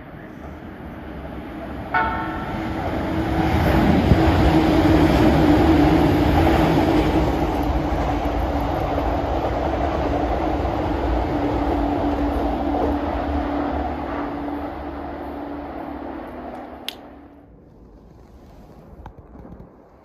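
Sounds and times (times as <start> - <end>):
electric train passing: 0.0 - 17.5.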